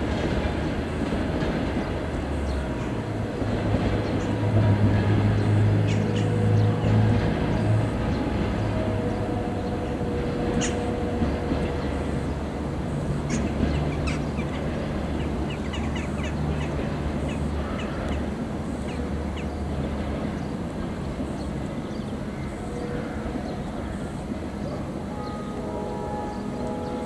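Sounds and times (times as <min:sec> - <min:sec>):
train rumble and hum: 0:00.0 - 0:27.0.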